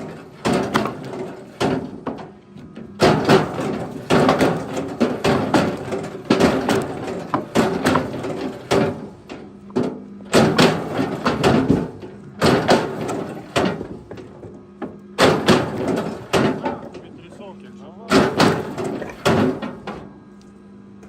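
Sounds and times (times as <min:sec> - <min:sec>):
firewood logs knocking together: 0:00.0 - 0:17.3, 0:18.1 - 0:20.1.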